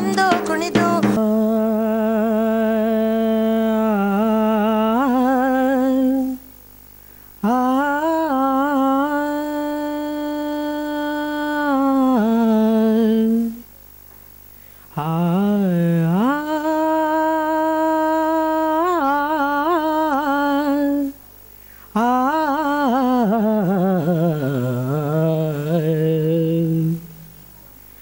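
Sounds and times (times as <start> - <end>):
man singing unaccompanied: 0.0 - 6.5, 7.4 - 13.6, 14.9 - 21.2, 21.9 - 27.4.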